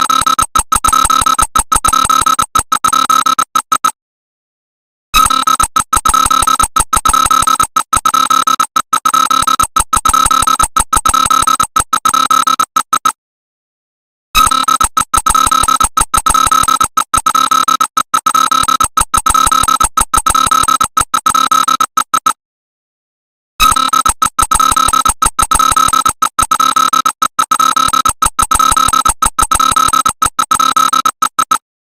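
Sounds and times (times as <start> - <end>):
electronic alarm buzzing tone: 0.0 - 4.0, 5.2 - 13.2, 14.4 - 22.4, 23.6 - 31.6.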